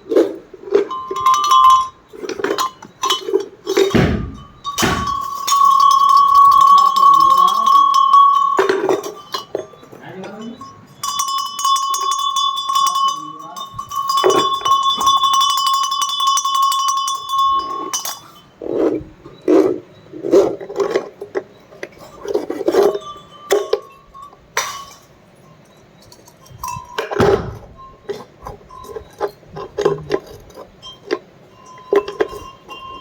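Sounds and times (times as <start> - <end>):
cowbell clanking: 0.0 - 20.0, 21.8 - 33.0
knocks and clinks: 0.0 - 33.0.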